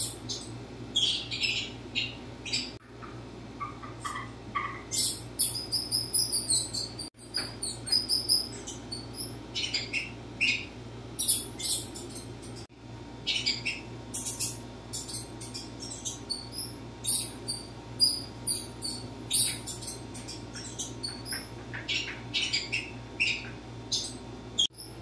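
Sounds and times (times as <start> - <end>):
mouse squeaks: 0.0 - 12.6, 13.3 - 25.0.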